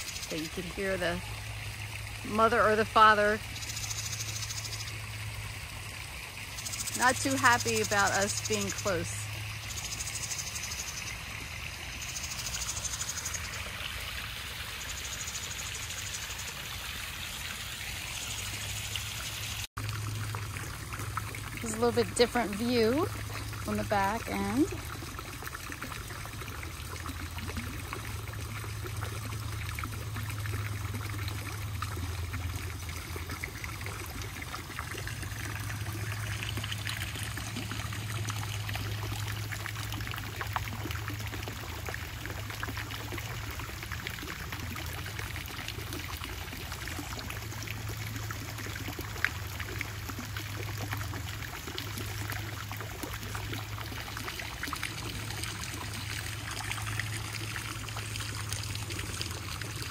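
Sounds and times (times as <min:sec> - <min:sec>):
fountain and waterfall splashing: 0:00.0 - 0:59.9.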